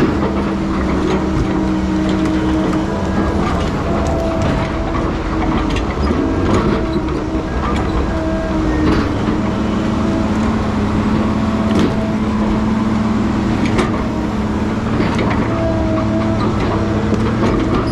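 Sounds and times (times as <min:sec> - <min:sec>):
diesel machinery running: 0:00.0 - 0:17.9.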